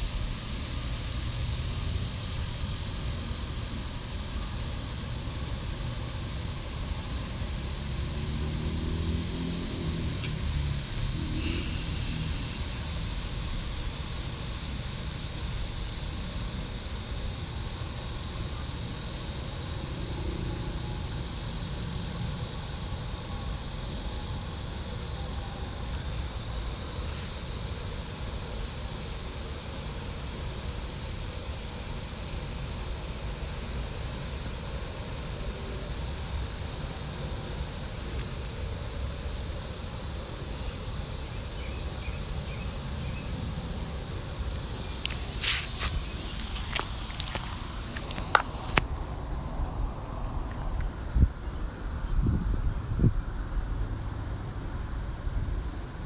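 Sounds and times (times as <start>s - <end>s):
constant high hiss: 0.0s - 56.0s.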